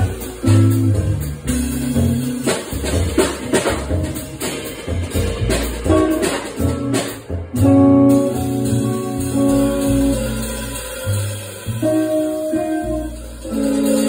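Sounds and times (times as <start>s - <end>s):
electric guitar: 0.0s - 10.6s, 11.7s - 14.0s
drum kit: 0.0s - 14.0s
upright double bass: 0.0s - 14.0s.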